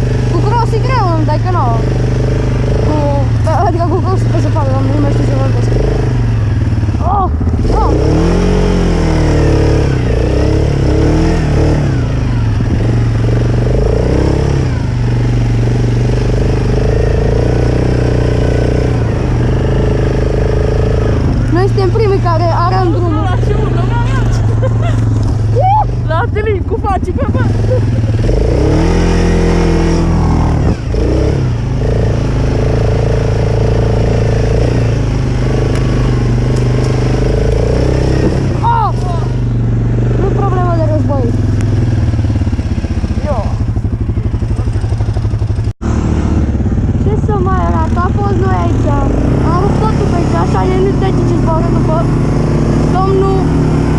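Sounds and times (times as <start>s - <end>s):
quad bike engine revving: 0.0s - 53.9s.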